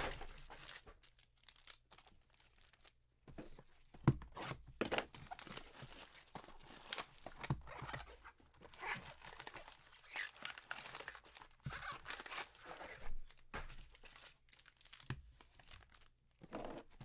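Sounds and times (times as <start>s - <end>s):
foil packs crinkling: 0.0s - 3.0s, 5.0s - 16.1s.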